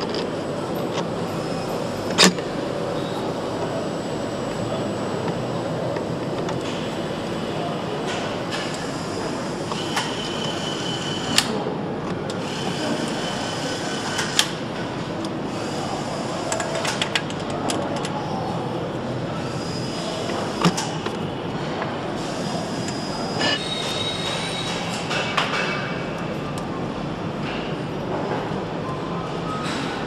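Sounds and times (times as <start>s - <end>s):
steady machinery noise: 0.0s - 30.0s.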